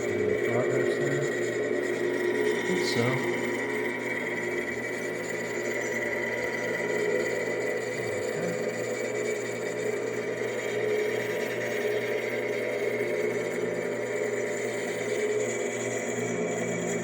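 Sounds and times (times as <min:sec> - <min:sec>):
lathe motor humming: 0:00.0 - 0:17.0.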